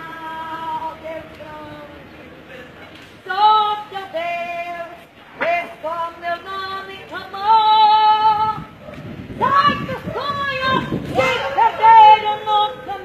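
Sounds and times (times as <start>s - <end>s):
woman singing unaccompanied: 0.0s - 2.2s, 3.2s - 8.7s, 9.4s - 13.0s.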